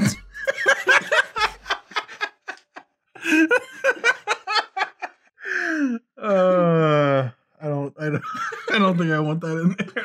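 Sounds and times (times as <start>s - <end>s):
men laughing: 0.0s - 6.6s, 8.0s - 10.0s.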